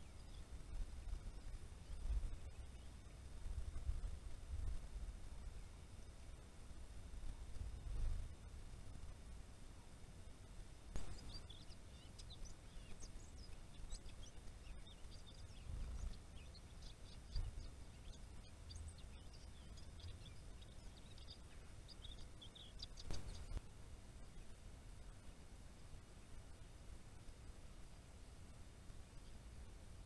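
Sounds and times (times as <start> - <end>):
faint low rumble: 0.0 - 30.0
songbirds chirping: 0.0 - 30.0.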